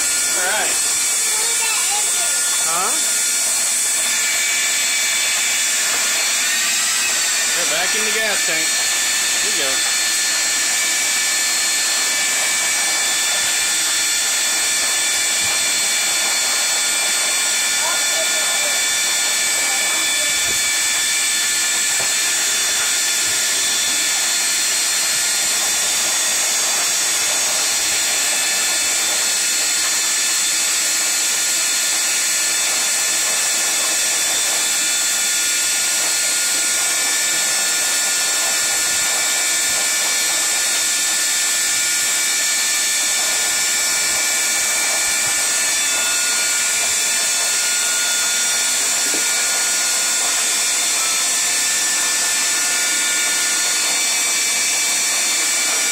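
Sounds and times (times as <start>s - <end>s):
shop vacuum running: 0.0s - 55.9s.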